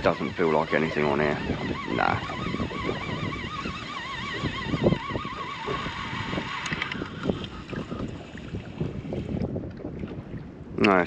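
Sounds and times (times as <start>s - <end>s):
fishing reel whining: 0.0s - 9.4s.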